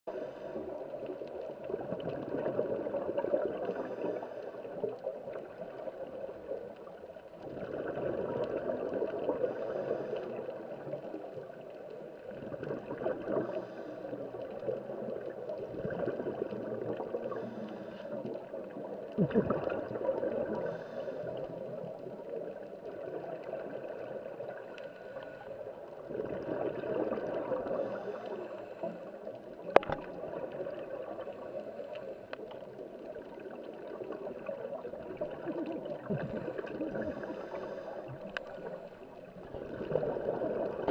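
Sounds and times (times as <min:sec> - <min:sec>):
underwater bubbling and gurgling: 0:00.1 - 0:40.9.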